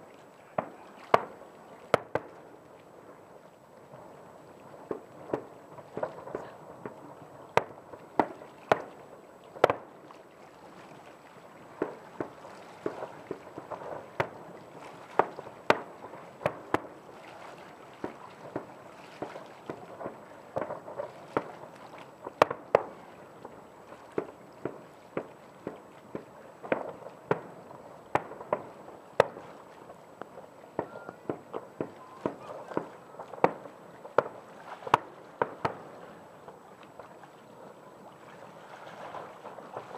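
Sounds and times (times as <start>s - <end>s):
distant fireworks bangs: 0.0s - 3.2s, 4.8s - 10.0s, 11.7s - 17.3s, 18.0s - 37.7s, 38.4s - 39.9s.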